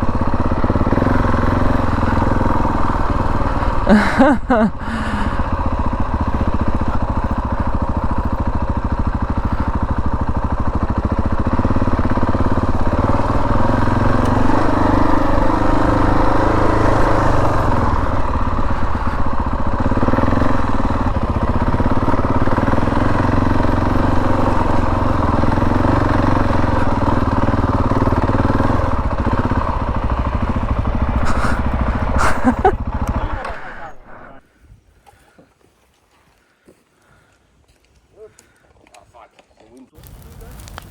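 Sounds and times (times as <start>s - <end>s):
motorcycle engine revving: 0.0s - 34.6s.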